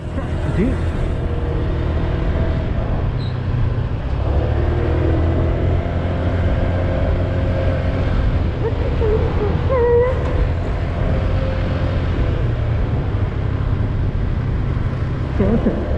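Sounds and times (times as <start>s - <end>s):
motorcycle engine: 0.0s - 15.9s
road noise: 0.0s - 15.9s
wind rumble: 0.0s - 15.9s.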